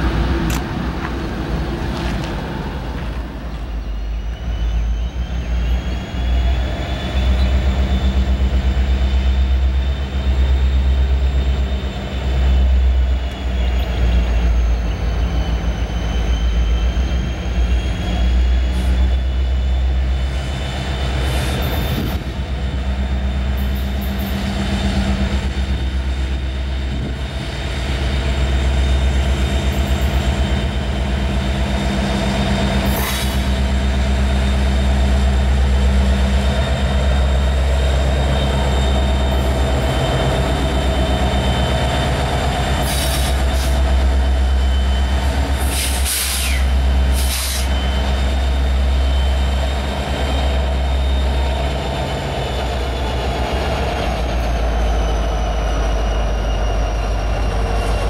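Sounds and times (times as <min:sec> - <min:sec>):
diesel locomotives rumbling past: 0:00.0 - 0:58.0
train cars rolling by: 0:00.0 - 0:58.0.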